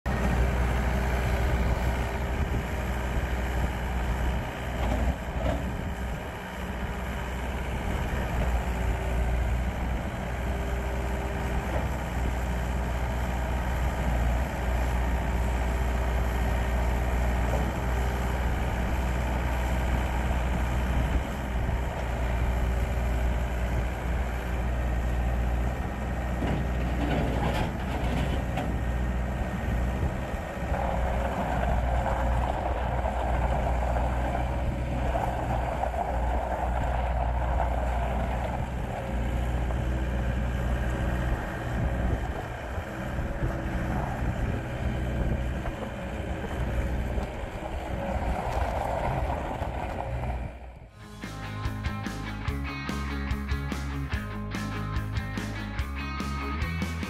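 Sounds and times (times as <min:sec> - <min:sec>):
loader diesel engine running: 0:00.0 - 0:57.0.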